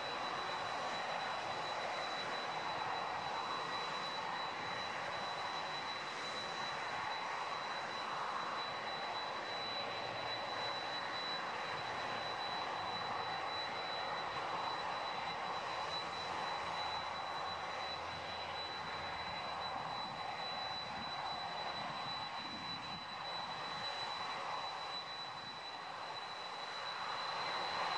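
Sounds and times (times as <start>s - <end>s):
high-pitched whine: 0.0s - 27.9s
jet engines rumbling: 0.0s - 27.9s.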